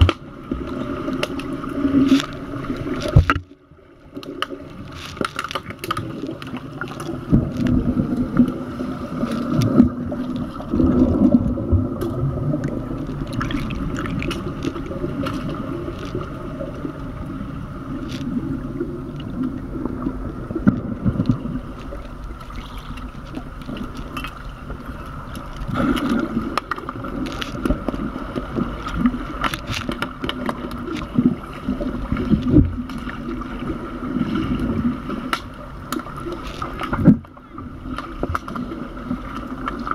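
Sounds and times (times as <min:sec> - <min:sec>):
underwater clicks and knocks: 0:00.0 - 0:08.6, 0:09.2 - 0:17.0, 0:18.0 - 0:18.4, 0:20.6 - 0:33.4, 0:34.6 - 0:39.9
underwater churning and bubbles: 0:00.0 - 0:39.9.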